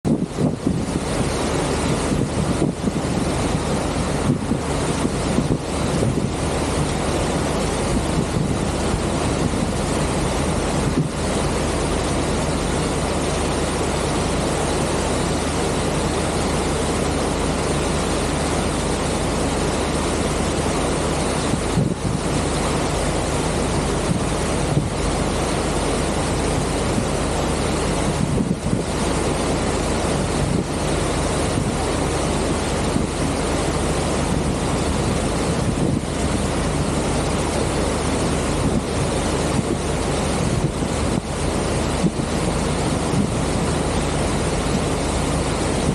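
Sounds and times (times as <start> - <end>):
propeller wash churning: 0.0 - 45.9
wind buffeting microphone: 0.1 - 14.4, 20.4 - 45.9
low ship engine hum: 0.1 - 45.9.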